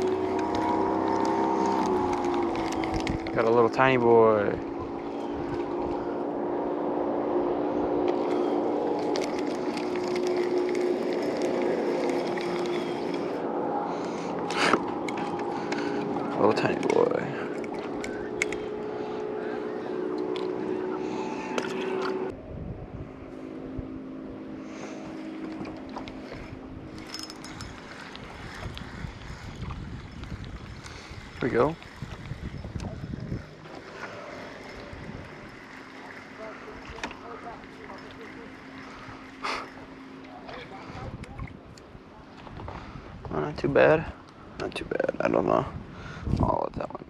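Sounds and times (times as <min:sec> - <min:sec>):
wind rumbling on microphone: 0:00.0 - 0:37.6, 0:40.5 - 0:47.0
boat motor humming: 0:00.0 - 0:46.0.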